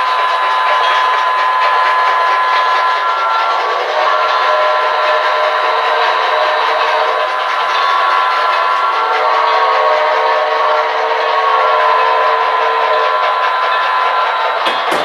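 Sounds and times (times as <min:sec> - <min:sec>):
locomotive sound tones: 0:00.0 - 0:15.0
model trains running: 0:00.0 - 0:15.0.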